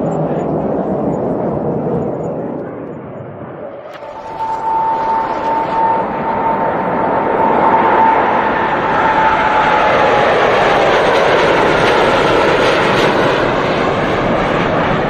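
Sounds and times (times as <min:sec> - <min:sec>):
high engine whine: 0:00.0 - 0:15.0
jet engines roaring at takeoff: 0:00.0 - 0:15.0.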